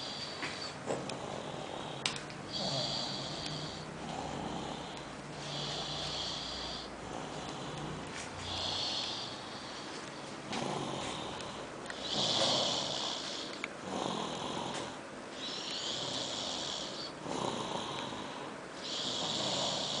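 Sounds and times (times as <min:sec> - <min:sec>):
child snoring: 0:00.0 - 0:09.9, 0:10.5 - 0:20.0.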